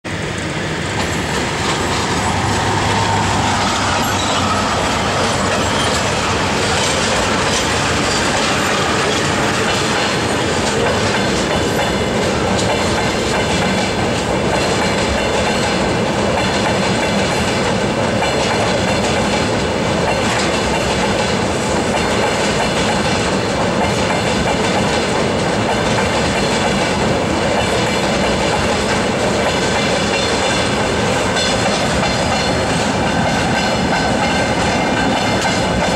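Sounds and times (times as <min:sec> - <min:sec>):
train wheels rumbling on rail: 0:00.0 - 0:35.9
wheels clacking over rail joints: 0:00.9 - 0:35.9.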